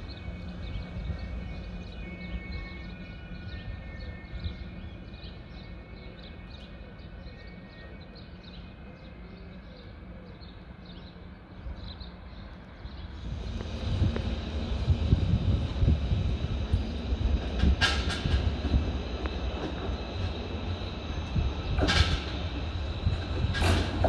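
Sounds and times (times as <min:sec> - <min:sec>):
low rumble of railway traffic: 0:00.0 - 0:24.0
train approaching: 0:00.0 - 0:24.0.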